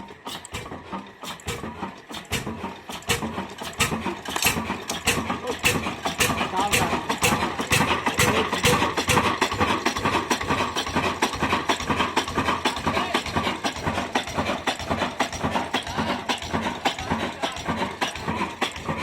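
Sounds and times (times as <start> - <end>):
diesel engine knocking: 0.0 - 19.0.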